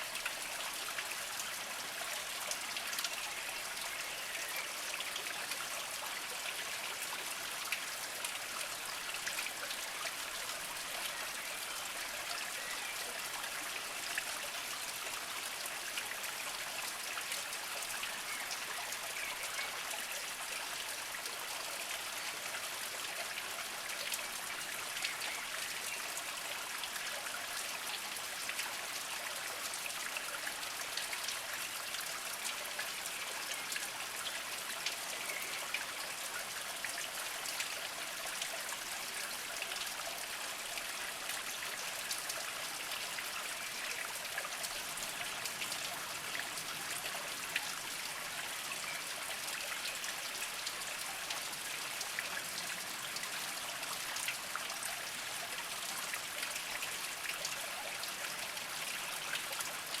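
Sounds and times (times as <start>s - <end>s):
water drips and splashes: 0.0s - 60.0s
water trickling over rocks: 0.0s - 60.0s.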